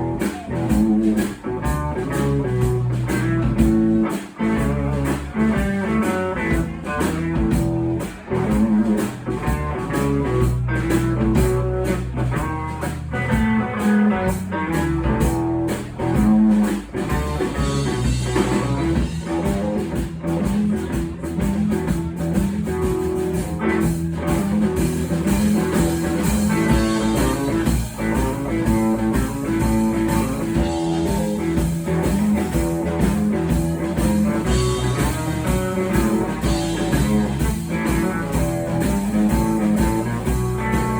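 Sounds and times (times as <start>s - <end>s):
blues band playing: 0.0s - 40.9s
electric guitar: 0.0s - 40.9s.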